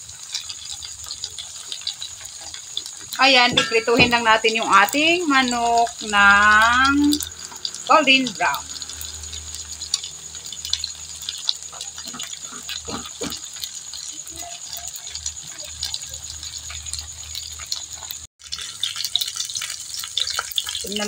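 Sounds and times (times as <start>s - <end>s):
chicken frying in oil: 0.0s - 21.0s
oil crackling and popping: 0.0s - 21.0s.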